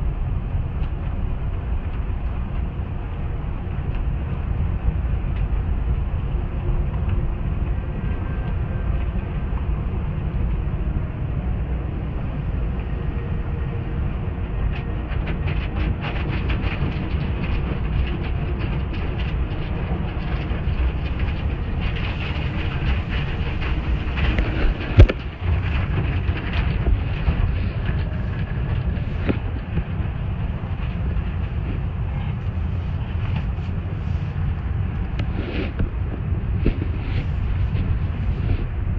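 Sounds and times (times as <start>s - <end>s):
car wash machinery rumbling: 0.0s - 38.9s.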